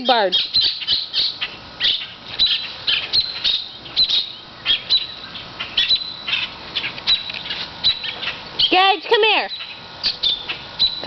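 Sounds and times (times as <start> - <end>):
birds giving sharp alarm calls: 0.0 - 11.0.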